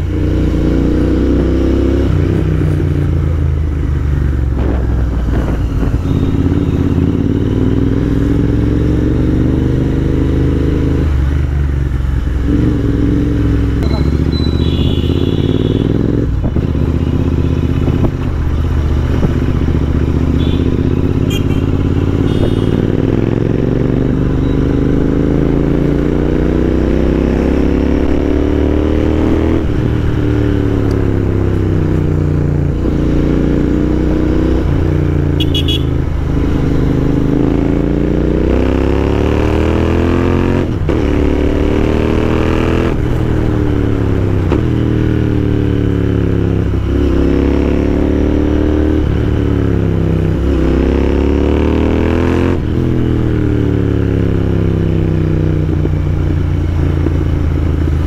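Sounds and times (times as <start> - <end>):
motorcycle engine running: 0.0 - 28.5, 29.4 - 51.6, 52.4 - 58.0.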